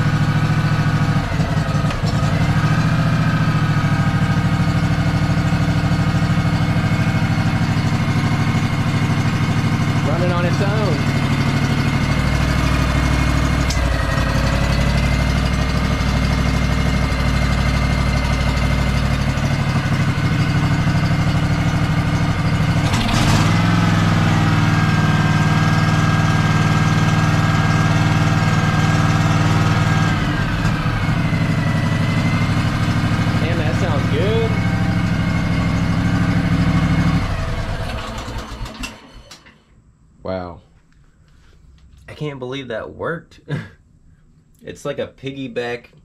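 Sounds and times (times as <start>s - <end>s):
lawn tractor engine running: 0.0s - 39.6s.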